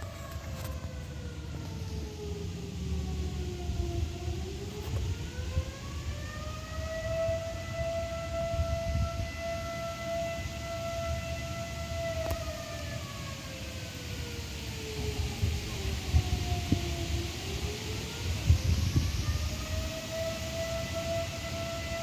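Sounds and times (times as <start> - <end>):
air raid siren wailing: 0.0 - 22.0.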